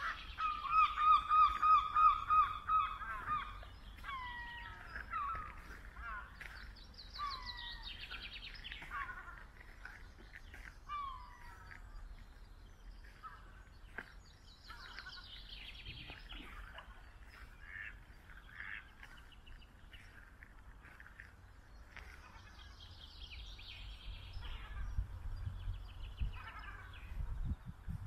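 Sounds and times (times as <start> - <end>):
birds singing and calling: 0.0 - 28.0.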